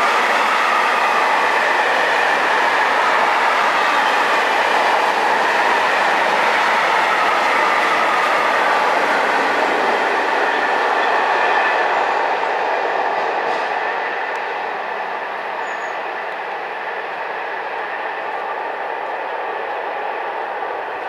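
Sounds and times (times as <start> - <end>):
freight train wheels on rails: 0.0 - 21.0.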